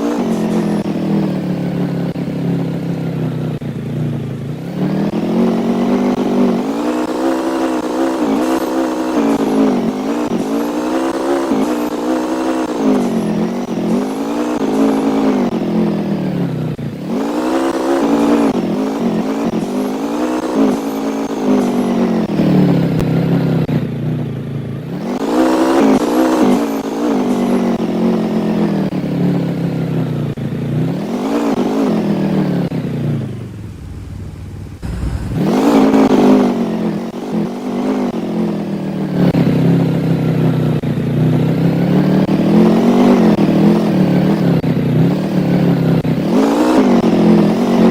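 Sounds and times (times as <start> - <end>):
engine revving: 0.0 - 23.9, 24.8 - 47.9.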